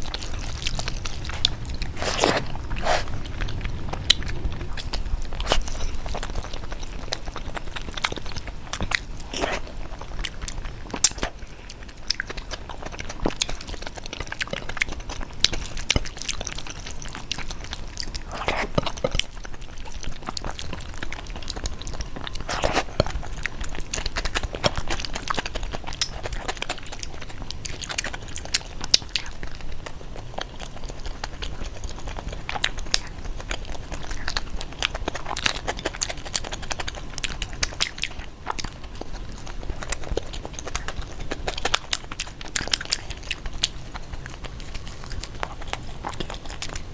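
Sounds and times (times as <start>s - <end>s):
chewing crunchy food: 0.0s - 46.9s.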